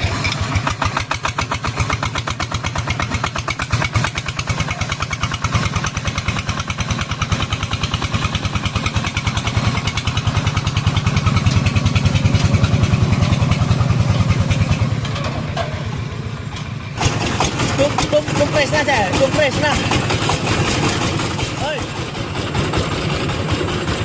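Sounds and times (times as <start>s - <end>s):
diesel engine chugging: 0.0s - 24.0s.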